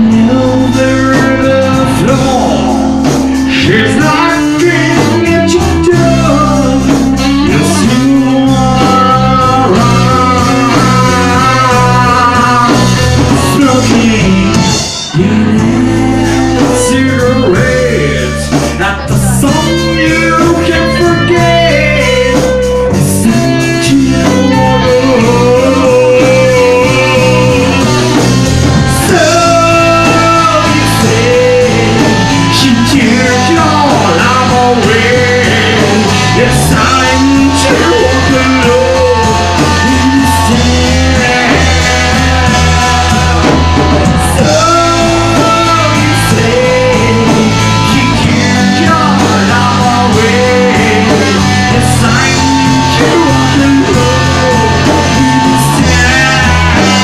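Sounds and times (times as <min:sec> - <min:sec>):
bass guitar: 0:00.0 - 0:57.0
drums: 0:00.0 - 0:57.0
electric guitar: 0:00.0 - 0:57.0
person singing: 0:00.0 - 0:57.0.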